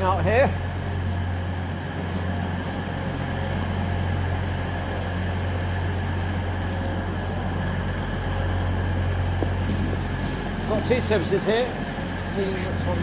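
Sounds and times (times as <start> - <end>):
diesel train engines idling: 0.0 - 13.0.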